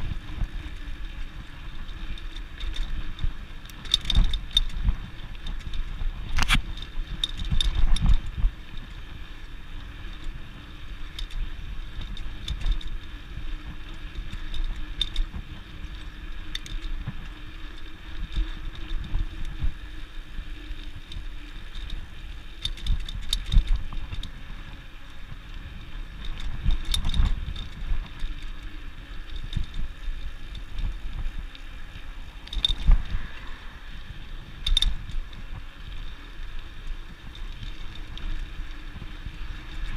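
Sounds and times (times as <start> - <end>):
bicycle knocking and rattling: 0.0 - 39.9
bicycle tyres rumbling on concrete: 0.0 - 39.9.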